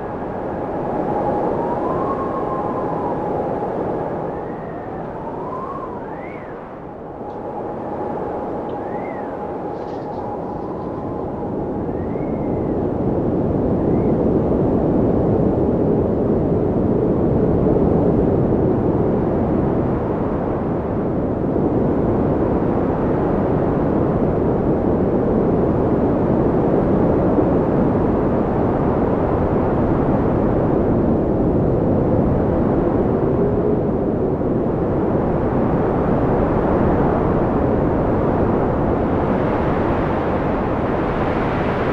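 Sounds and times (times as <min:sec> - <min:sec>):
strong storm wind blowing: 0:00.0 - 0:41.9.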